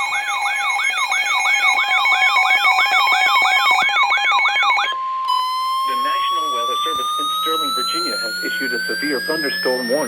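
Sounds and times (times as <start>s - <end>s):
pulsing beep tones: 0.0s - 10.0s.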